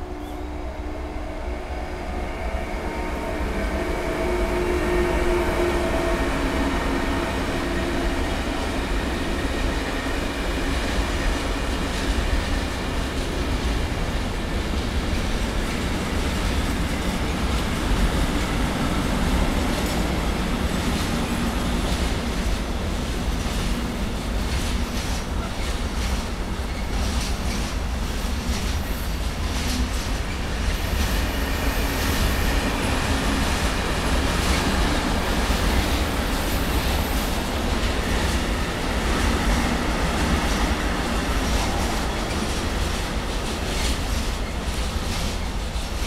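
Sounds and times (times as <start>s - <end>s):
freight train rumbling: 0.0s - 46.0s.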